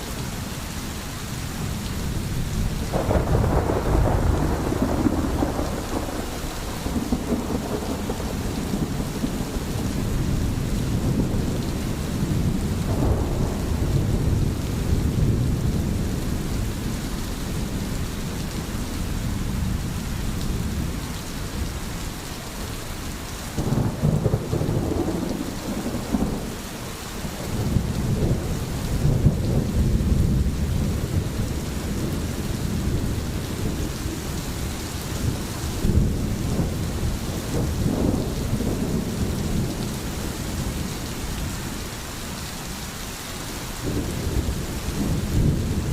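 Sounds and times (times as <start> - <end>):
steady rain: 0.0 - 45.9
low rolling thunder: 1.6 - 21.8, 23.6 - 42.0, 43.8 - 45.9.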